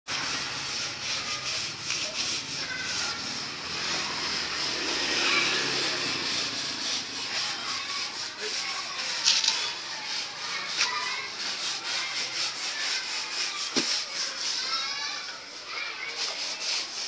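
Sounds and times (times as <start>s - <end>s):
faint voices: 0.1s - 17.0s
tarpaulin scrubbing on concrete: 0.1s - 17.0s.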